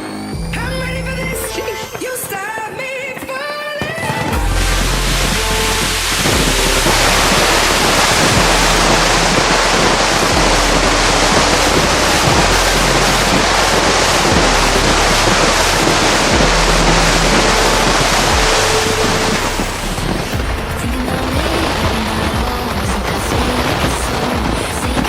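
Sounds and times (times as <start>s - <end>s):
deep bass music: 0.0s - 1.8s, 4.3s - 25.0s
fireworks noise: 0.0s - 25.0s.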